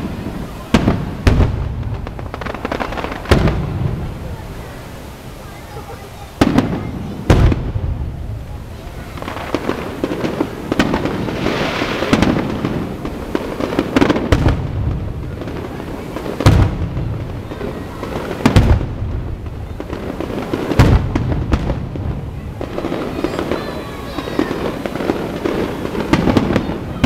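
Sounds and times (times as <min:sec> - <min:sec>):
firework shells booming: 0:00.0 - 0:05.0, 0:06.4 - 0:27.0
firework crackle: 0:00.0 - 0:27.0.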